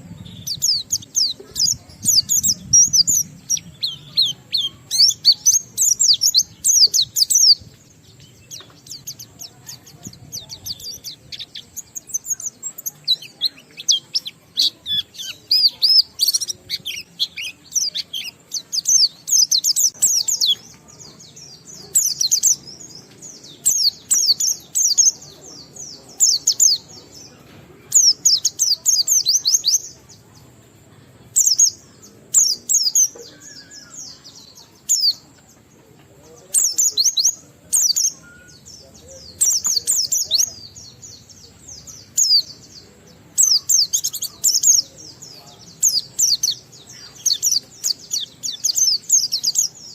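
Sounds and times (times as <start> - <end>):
white-eye bird twittering song: 0.0 - 30.6, 31.2 - 49.9.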